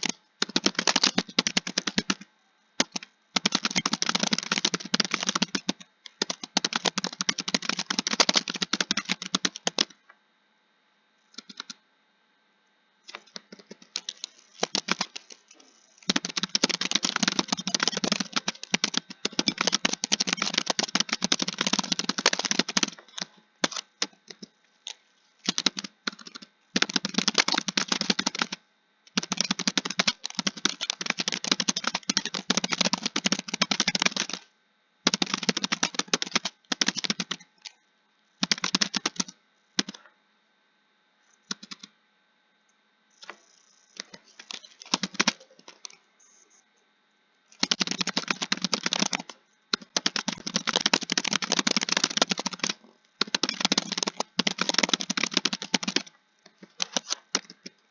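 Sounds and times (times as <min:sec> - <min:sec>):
computer keyboard typing: 0:00.0 - 0:10.0, 0:11.4 - 0:11.8, 0:13.1 - 0:15.4, 0:16.0 - 0:24.5, 0:25.4 - 0:34.5, 0:35.1 - 0:37.5, 0:38.4 - 0:40.0, 0:41.5 - 0:41.9, 0:44.0 - 0:46.0, 0:47.6 - 0:57.7.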